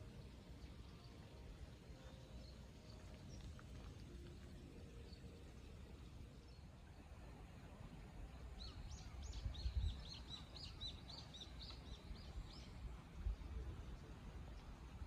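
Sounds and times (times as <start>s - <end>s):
faint low rumble: 0.0s - 15.0s.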